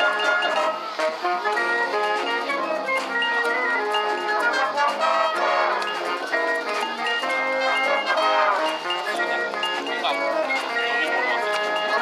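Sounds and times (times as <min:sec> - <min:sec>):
wind band playing: 0:00.0 - 0:12.0.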